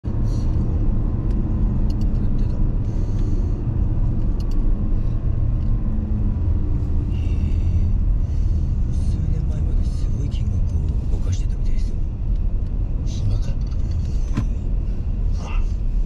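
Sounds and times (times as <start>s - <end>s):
car road rumble inside cabin: 0.0s - 16.0s.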